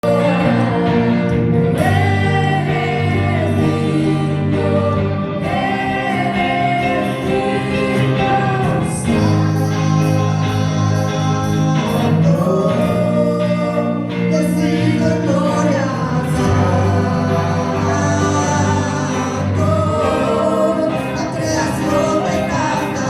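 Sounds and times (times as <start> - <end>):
choir singing gospel song: 0.0 - 23.0
instrumental backing: 0.0 - 23.0.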